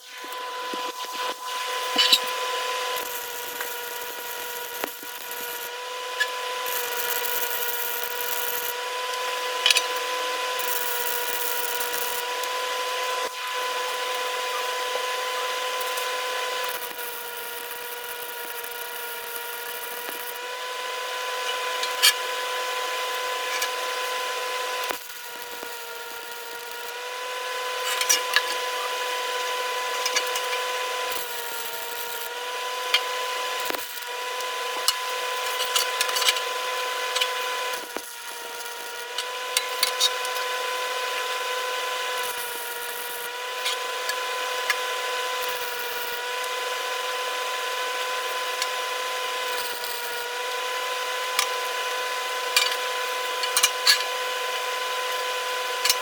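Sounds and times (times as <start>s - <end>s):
electric power tool motor running: 0.0s - 56.0s.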